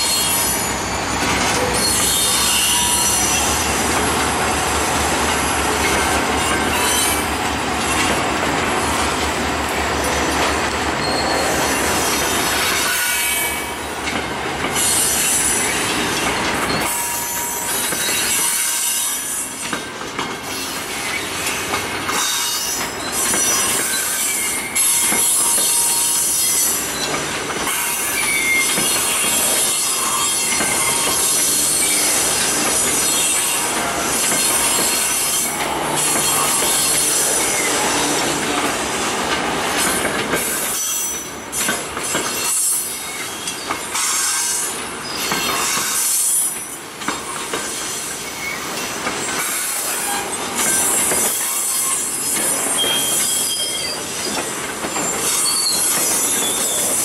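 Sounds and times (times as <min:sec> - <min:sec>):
steel wheels squealing: 0:00.0 - 0:08.1, 0:10.0 - 0:14.0, 0:14.7 - 0:39.1, 0:39.7 - 0:57.0
freight train rumbling and rattling: 0:00.0 - 0:57.0.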